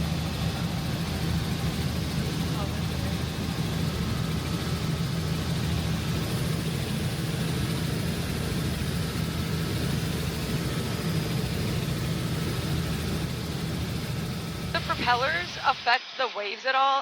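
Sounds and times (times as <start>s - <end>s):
helicopter engine and rotor drone: 0.0s - 16.5s.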